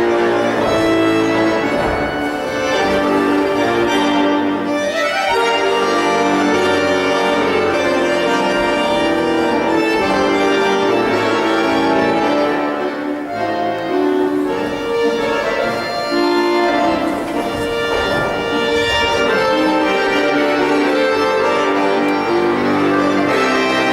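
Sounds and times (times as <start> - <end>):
instrumental music: 0.0 - 23.9.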